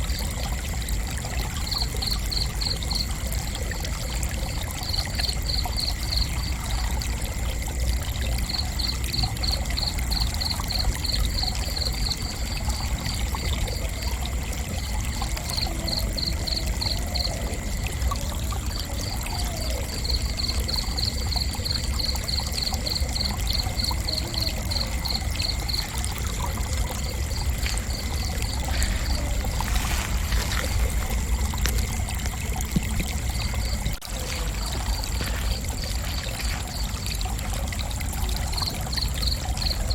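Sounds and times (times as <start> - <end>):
crickets chirping: 0.0 - 39.9
high insect drone: 0.0 - 39.9.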